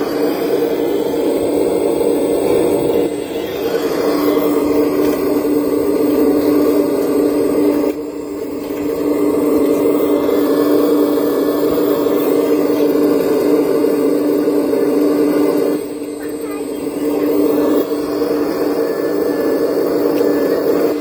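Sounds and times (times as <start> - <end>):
model excavator mechanical whine: 0.0 - 21.0.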